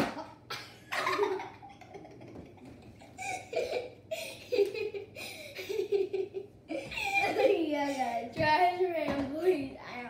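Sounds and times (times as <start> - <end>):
children laughing: 0.0 - 8.1.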